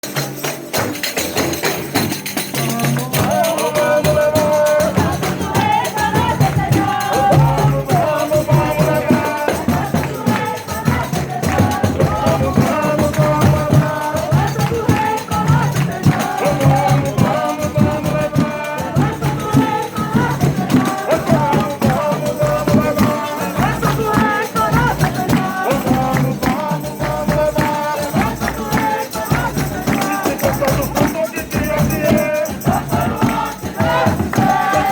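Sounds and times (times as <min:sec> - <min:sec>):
tambourine jingling: 0:00.0 - 0:34.9.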